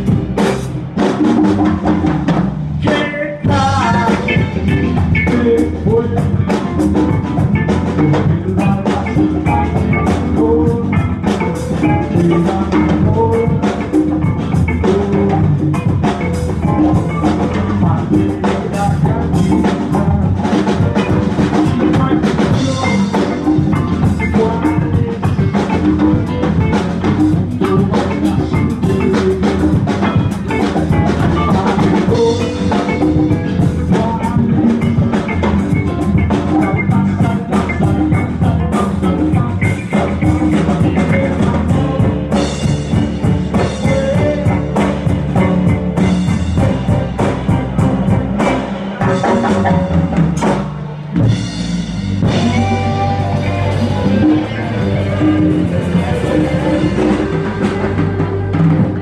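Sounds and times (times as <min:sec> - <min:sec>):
busy bass line: 0:00.0 - 0:59.0
drum hits: 0:00.0 - 0:59.0
funk band playing: 0:00.0 - 0:59.0.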